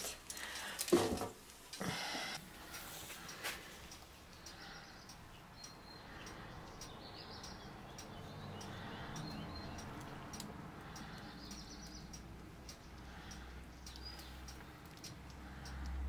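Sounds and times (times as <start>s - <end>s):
light ticks: 2.4s - 16.0s.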